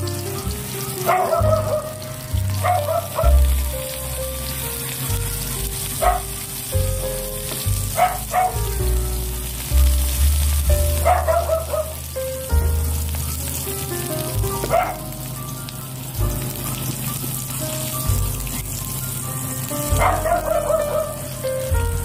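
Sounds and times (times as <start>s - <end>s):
background music: 0.0s - 22.0s
tofu sizzling in oil: 0.0s - 22.0s.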